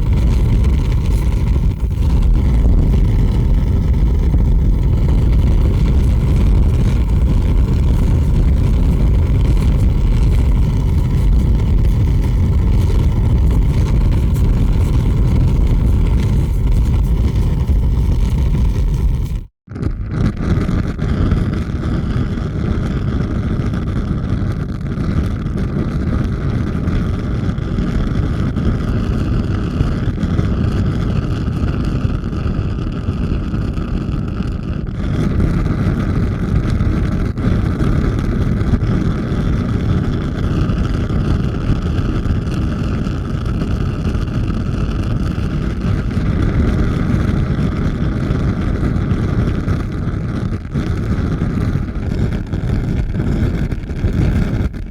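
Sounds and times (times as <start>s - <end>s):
large fire roaring: 0.0s - 54.9s.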